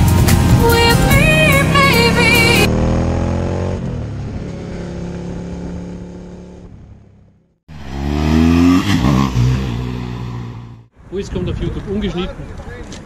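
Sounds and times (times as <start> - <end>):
motorcycle engine accelerating: 0.0 - 10.9.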